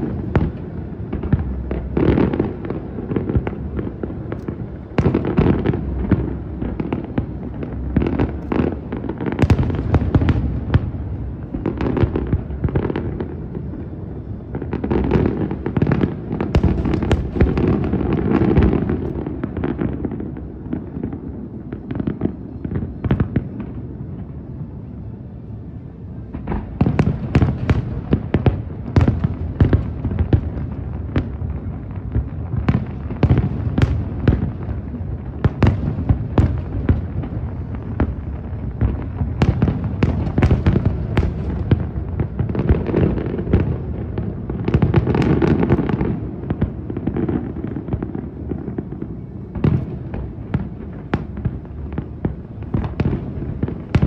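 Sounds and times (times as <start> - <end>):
crackling firework reports: 0.0 - 54.0.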